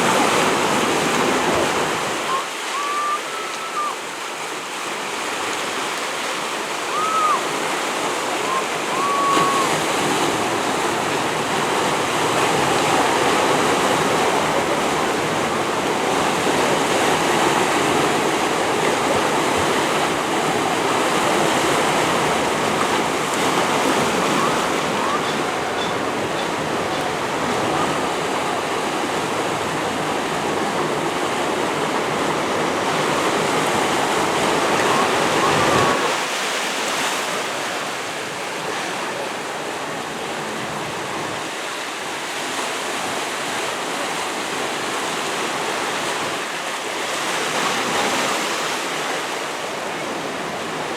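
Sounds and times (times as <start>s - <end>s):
waves washing: 0.0s - 50.9s.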